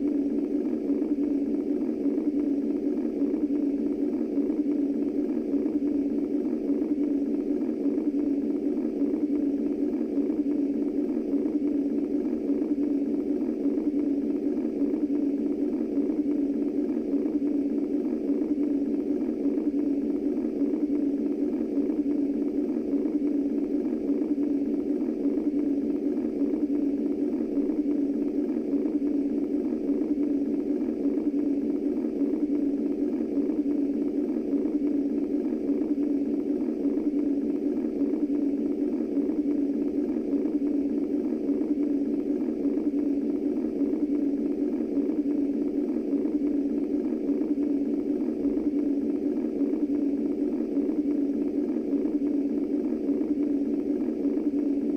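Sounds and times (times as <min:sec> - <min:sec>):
white noise rushing hum: 0:00.0 - 0:54.9.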